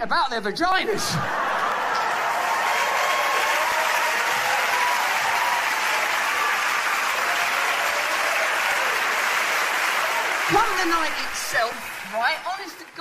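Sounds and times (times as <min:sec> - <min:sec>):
audience applauding: 0:01.2 - 0:13.0.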